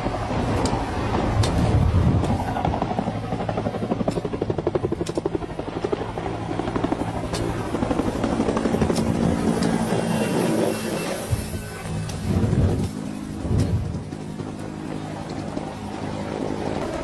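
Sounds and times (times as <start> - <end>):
helicopter engine hum: 0.0 - 17.0
helicopter rotor chopping: 0.0 - 17.0.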